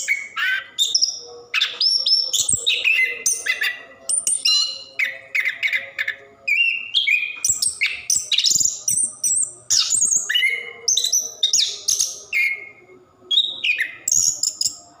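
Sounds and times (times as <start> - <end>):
thrush singing: 0.0 - 15.0.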